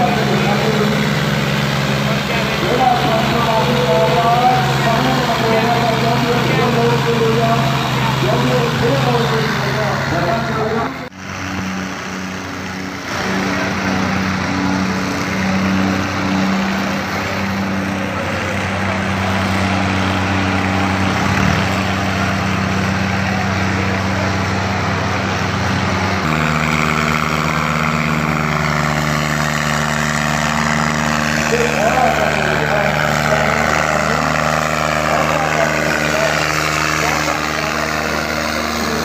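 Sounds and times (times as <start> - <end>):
tractor diesel engines under load: 0.0 - 39.0.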